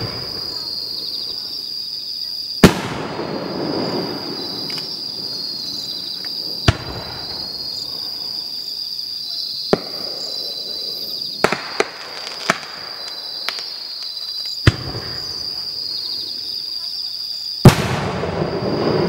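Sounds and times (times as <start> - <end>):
fireworks bangs: 0.0 - 19.0
insects chirring: 0.0 - 19.0.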